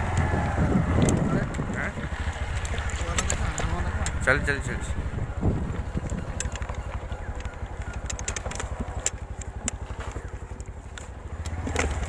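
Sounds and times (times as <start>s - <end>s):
clicks and rattles on stony track: 0.0s - 12.0s
motorcycle engine running: 0.0s - 12.0s.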